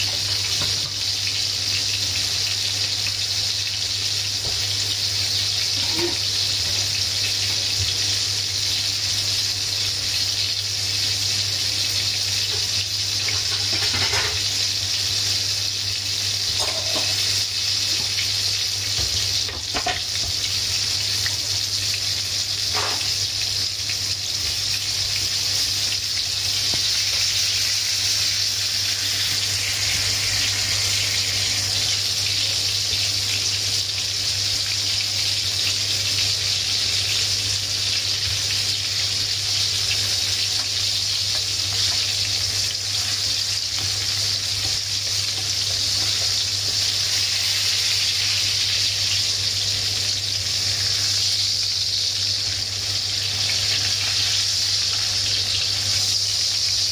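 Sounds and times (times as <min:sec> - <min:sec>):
pork chops sizzling in oil: 0:00.0 - 0:56.9.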